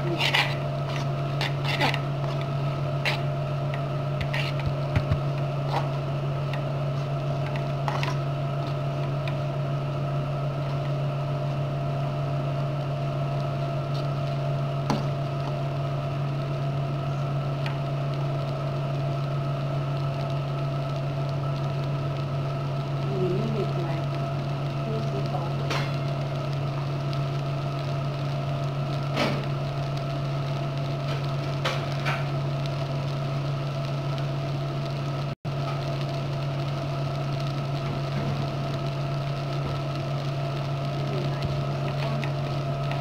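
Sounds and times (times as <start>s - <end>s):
low electrical hum: 0.0s - 43.0s.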